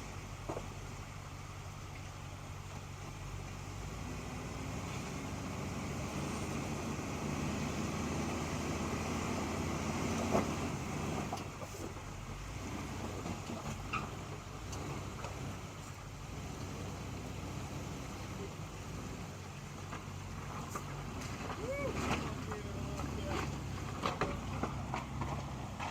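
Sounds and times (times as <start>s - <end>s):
pickup engine running at low revs: 0.0s - 25.9s.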